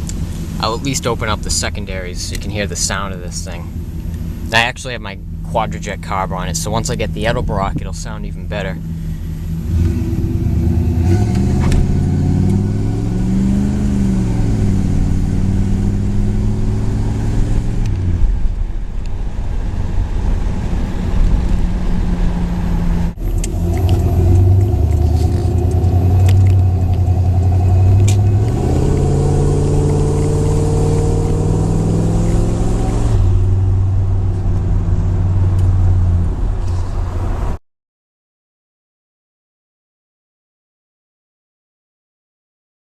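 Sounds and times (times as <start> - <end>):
car engine accelerating: 0.0 - 37.6.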